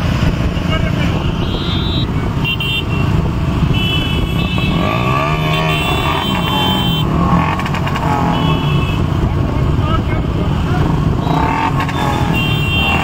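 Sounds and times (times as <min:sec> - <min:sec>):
motorcycle engine revving: 0:00.0 - 0:13.0
motorcycle engines rumbling: 0:00.0 - 0:13.0
motorcycle horns: 0:00.6 - 0:09.2, 0:11.2 - 0:13.0.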